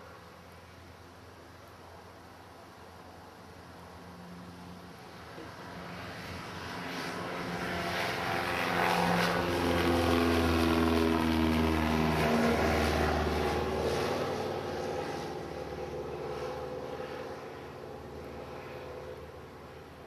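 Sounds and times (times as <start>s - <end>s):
light plane flying past: 0.0s - 20.0s.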